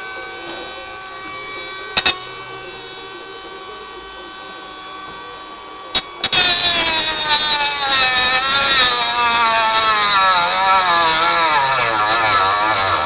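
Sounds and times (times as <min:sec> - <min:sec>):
cutter cutting wood under load: 0:00.0 - 0:13.0
milling machine spindle whine: 0:00.0 - 0:13.0.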